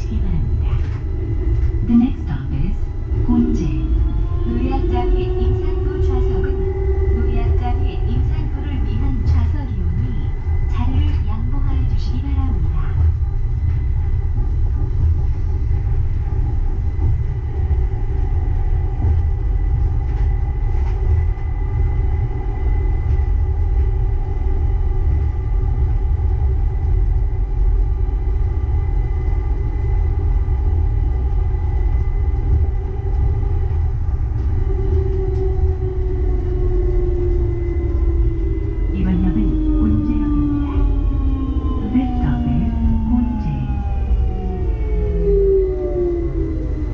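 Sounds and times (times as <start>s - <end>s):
light rail train running: 0.0s - 46.9s.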